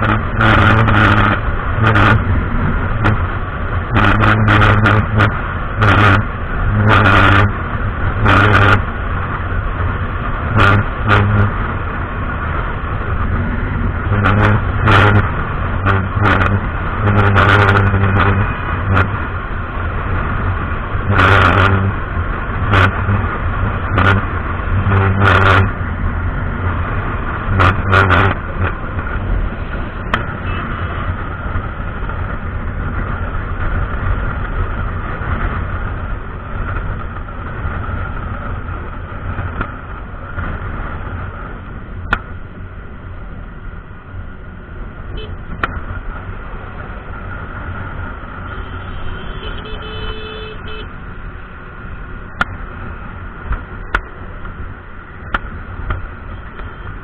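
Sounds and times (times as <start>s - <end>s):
motorcycle engine and road noise: 0.0s - 57.0s.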